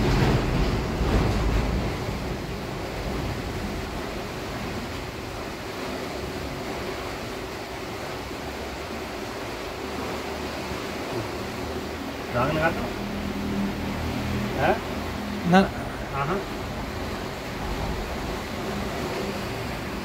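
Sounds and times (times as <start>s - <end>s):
rushing background noise: 0.0s - 20.0s.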